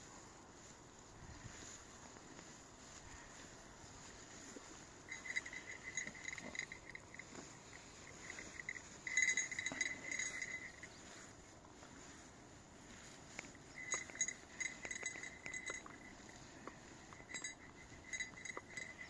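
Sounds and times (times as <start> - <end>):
small bell jingling: 1.3 - 19.0.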